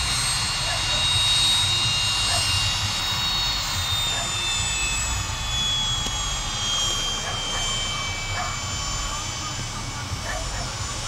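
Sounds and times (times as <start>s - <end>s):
jet airliner engines rumbling: 0.0s - 11.0s.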